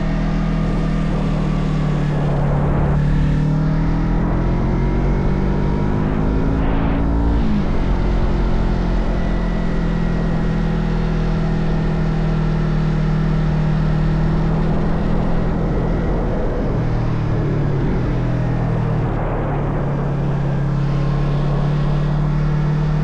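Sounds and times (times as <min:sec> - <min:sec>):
motorcycle engine running: 0:00.0 - 0:23.0
wind noise: 0:00.0 - 0:23.0.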